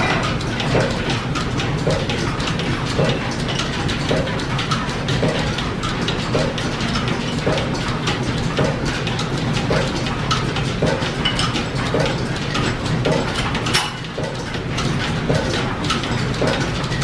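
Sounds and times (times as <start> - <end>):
lathe and line shafting running: 0.0 - 17.0.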